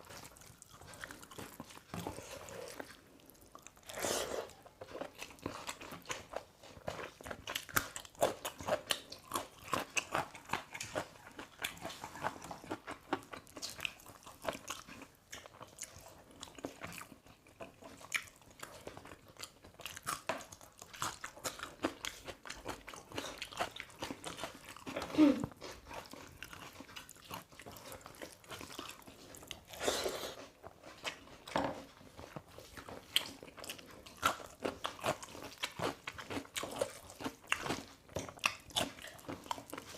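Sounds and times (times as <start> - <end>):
chewing with wet mouth clicks: 0.0 - 29.8, 30.4 - 39.9.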